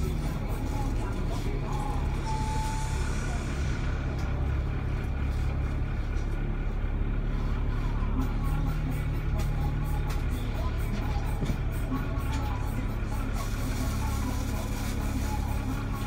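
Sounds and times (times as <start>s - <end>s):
bus engine hum: 0.0s - 16.0s
road and cabin noise: 0.0s - 16.0s.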